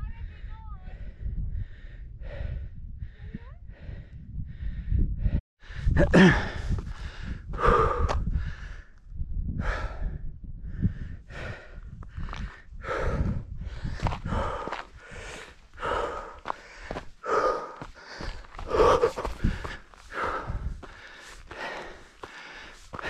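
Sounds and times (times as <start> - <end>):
person breathing hard: 0.9 - 9.0, 9.6 - 23.0.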